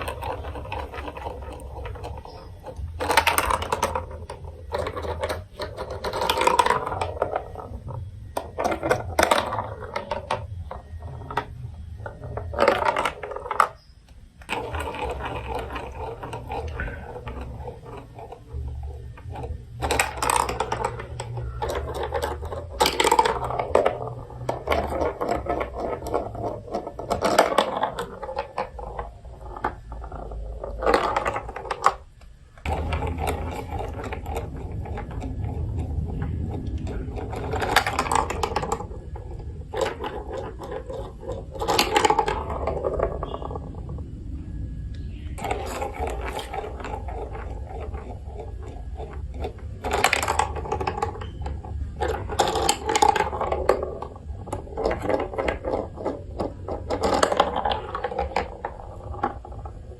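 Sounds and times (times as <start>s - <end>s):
marbles rolling and clattering: 0.0s - 59.9s.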